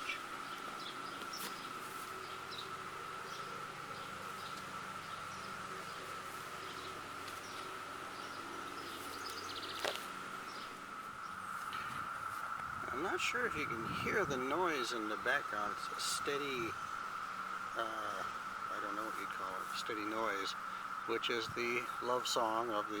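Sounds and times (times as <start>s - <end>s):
bird chirps: 0.0s - 23.0s
cicadas droning: 0.0s - 23.0s.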